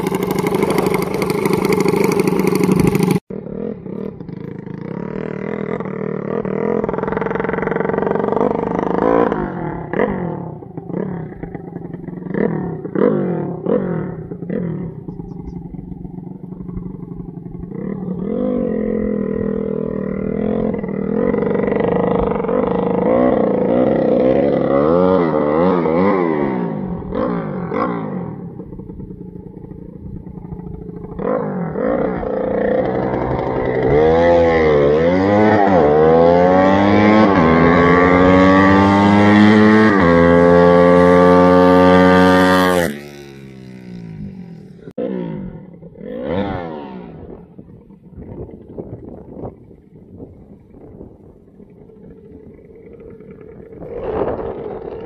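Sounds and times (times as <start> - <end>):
motorcycle engine revving and accelerating: 0.0 - 55.0.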